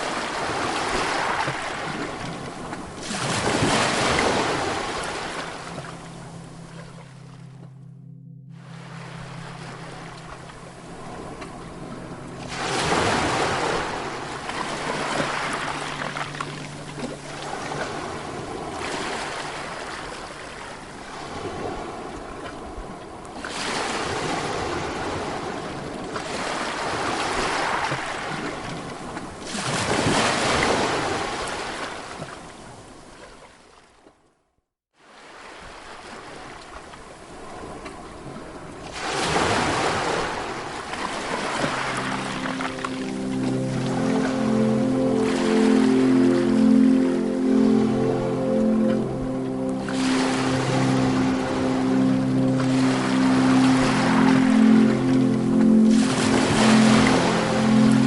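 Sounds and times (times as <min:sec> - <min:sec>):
waves breaking on a beach: 0:00.0 - 0:07.1, 0:08.8 - 0:34.0, 0:35.0 - 0:58.0.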